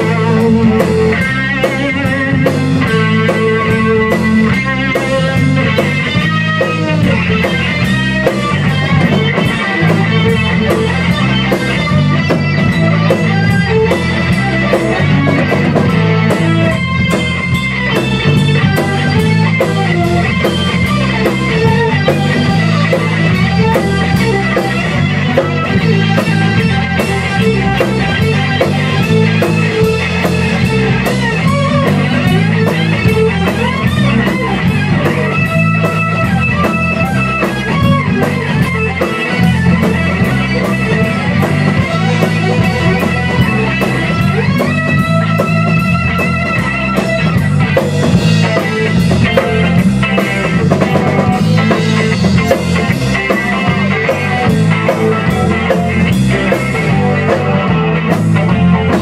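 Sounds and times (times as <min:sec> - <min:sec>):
drum kit beat: 0:00.0 - 0:59.0
electric bass: 0:00.0 - 0:59.0
electric guitar: 0:00.0 - 0:59.0.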